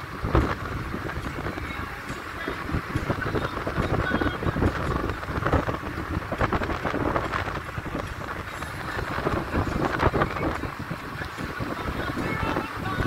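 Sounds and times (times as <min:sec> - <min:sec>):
car rumbling on road: 0:00.0 - 0:13.0
wind buffeting microphone: 0:00.0 - 0:13.0.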